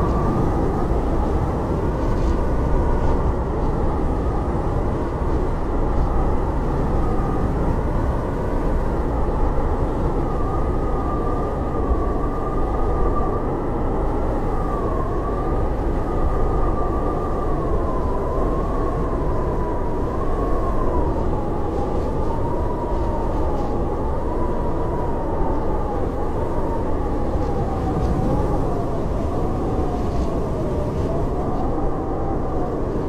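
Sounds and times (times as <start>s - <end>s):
howling blizzard wind: 0.0s - 33.0s.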